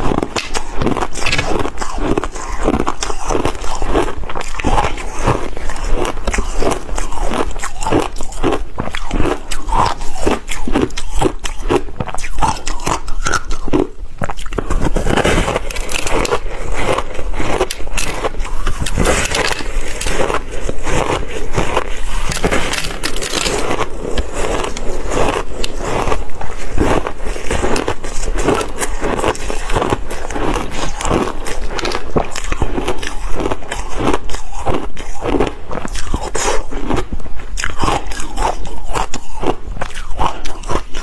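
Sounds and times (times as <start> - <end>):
ice crunching between teeth: 0.0 - 41.0.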